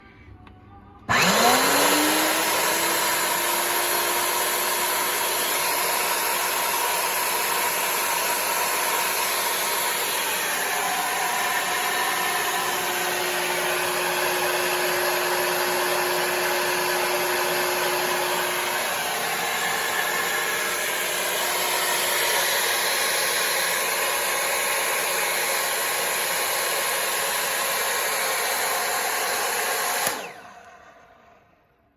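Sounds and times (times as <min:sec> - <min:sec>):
electric motor spinning up: 0:01.1 - 0:31.4.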